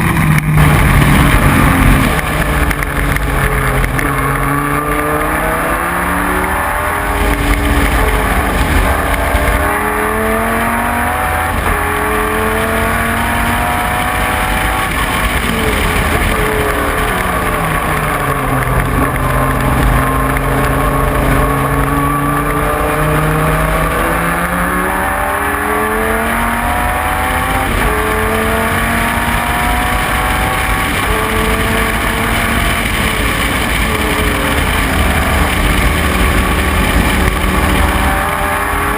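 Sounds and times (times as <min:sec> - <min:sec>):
race car engine shifting gears: 0:00.0 - 0:38.9.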